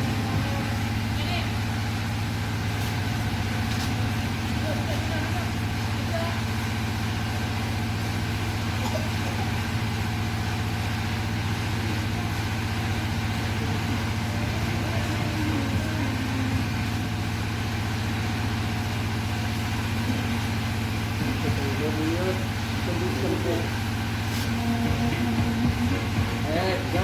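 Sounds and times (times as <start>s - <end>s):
large engine idling: 0.0s - 27.0s.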